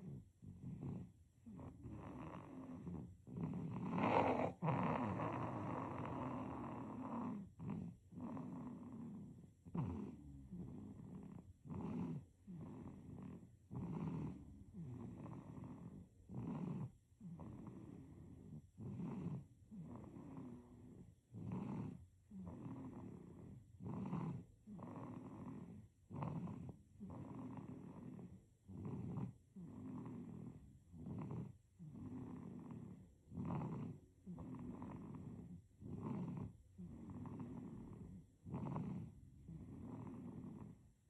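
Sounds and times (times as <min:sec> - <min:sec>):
baby snoring: 0:00.0 - 0:40.8.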